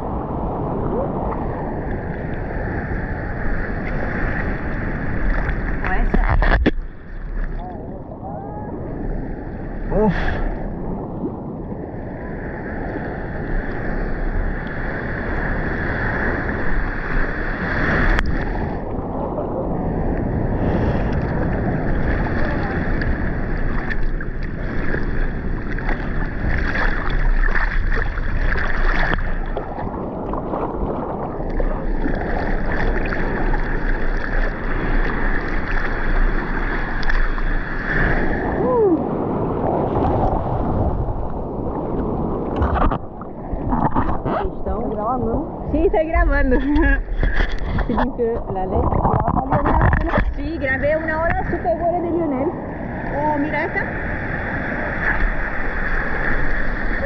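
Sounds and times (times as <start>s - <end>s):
waves breaking: 0.0s - 57.0s
water sloshing against camera: 3.4s - 11.5s, 16.1s - 54.0s.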